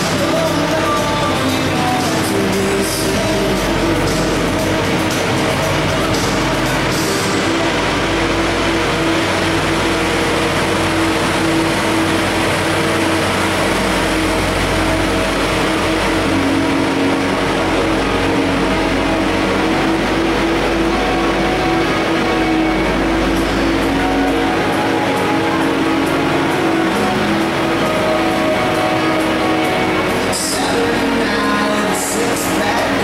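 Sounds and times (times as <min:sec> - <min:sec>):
ice resurfacer engine droning: 0:00.0 - 0:33.0.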